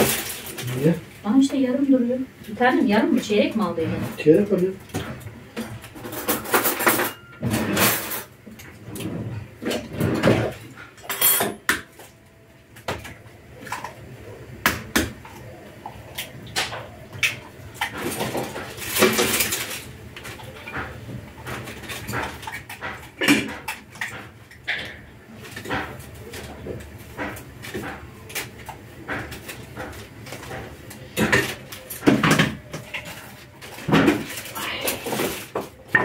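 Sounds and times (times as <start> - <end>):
dishes and utensils clattering: 3.6 - 12.2, 15.1 - 36.0.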